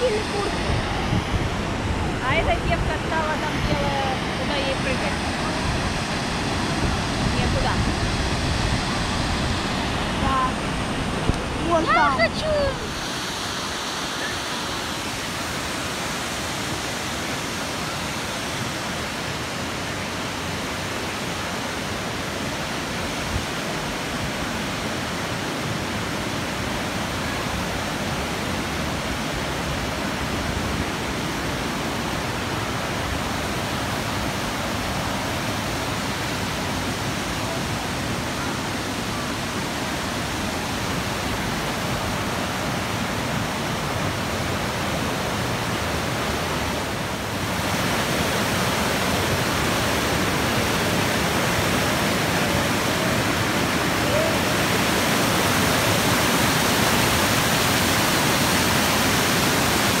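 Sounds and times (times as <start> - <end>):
water rushing over falls: 0.0 - 60.0.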